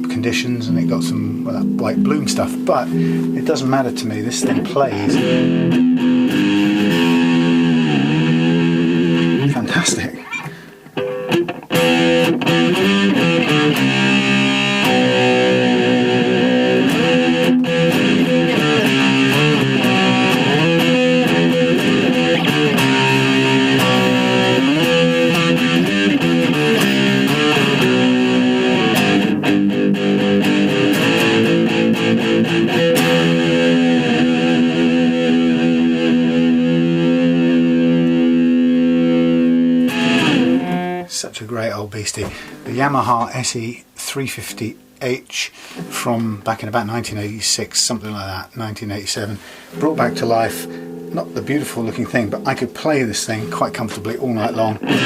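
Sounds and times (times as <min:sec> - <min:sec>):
electric guitar chords and riffs: 0:00.0 - 0:41.1, 0:49.4 - 0:55.0.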